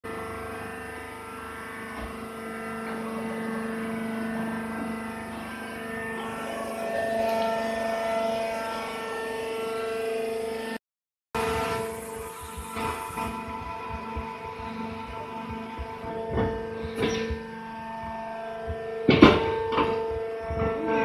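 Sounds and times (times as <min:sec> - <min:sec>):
baling press machine hum: 0:00.1 - 0:10.8, 0:11.4 - 0:21.0
steady pitched tones: 0:00.1 - 0:10.8, 0:11.4 - 0:21.0.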